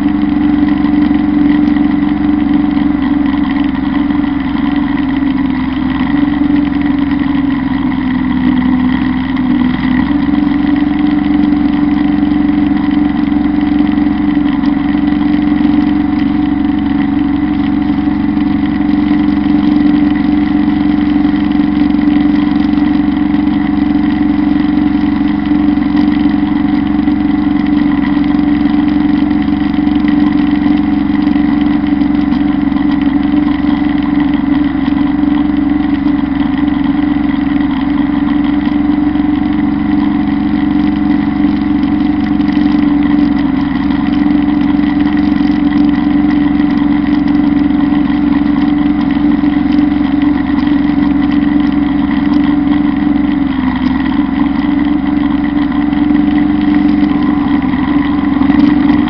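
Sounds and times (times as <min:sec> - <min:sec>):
drum mower cutting grass: 0:00.0 - 0:59.0
tractor diesel engine running: 0:00.0 - 0:59.0.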